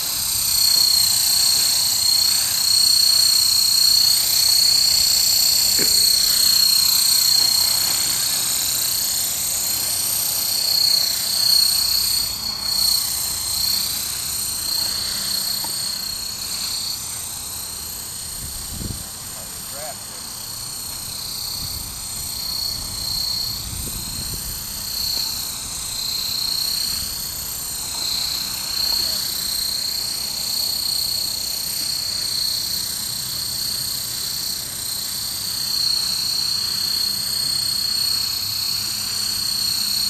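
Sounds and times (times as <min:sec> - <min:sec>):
rc helicopter motor whine: 0:00.0 - 0:40.0.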